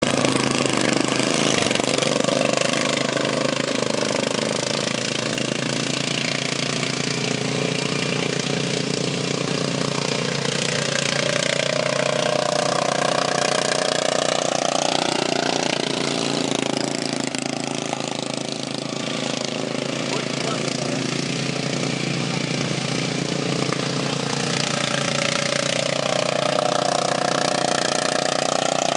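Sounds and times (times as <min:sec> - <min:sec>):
racing lawn mower engines revving: 0:00.0 - 0:28.9.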